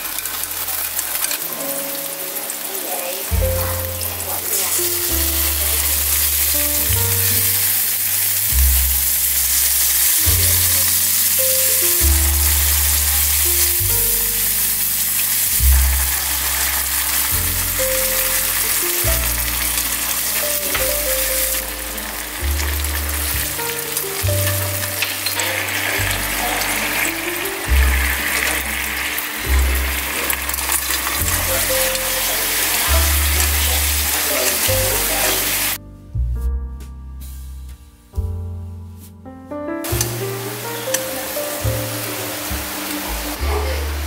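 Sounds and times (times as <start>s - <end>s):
garlic sizzling in hot oil: 0.0s - 35.8s, 39.8s - 44.0s
background music with bass: 3.3s - 44.0s.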